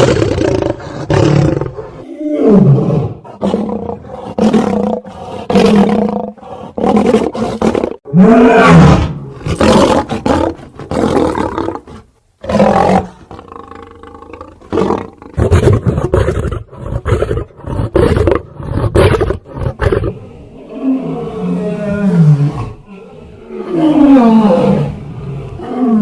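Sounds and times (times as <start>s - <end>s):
big cat roaring and growling: 0.0s - 26.0s.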